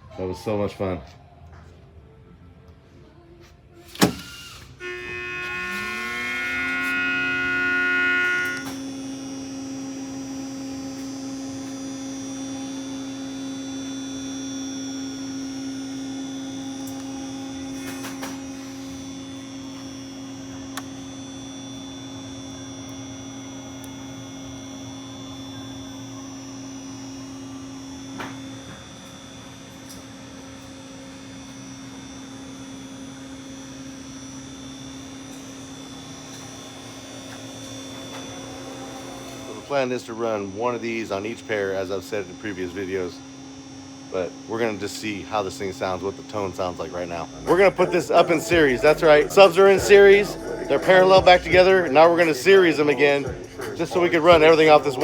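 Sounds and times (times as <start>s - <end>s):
electric motor humming and whining: 3.9s - 55.0s.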